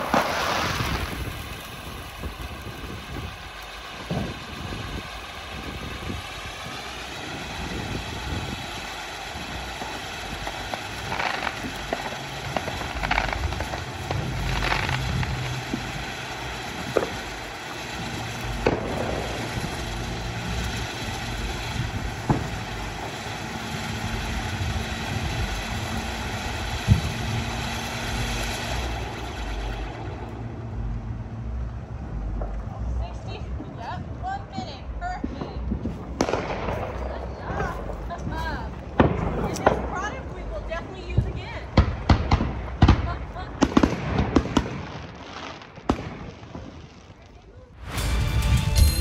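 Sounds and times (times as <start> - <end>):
firework sparks hissing: 0.0 - 34.0, 35.6 - 48.2.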